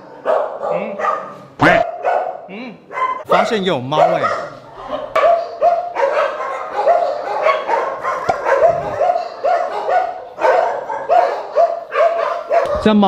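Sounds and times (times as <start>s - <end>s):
dog barking steadily: 0.0s - 13.0s
many dogs barking: 0.0s - 13.0s.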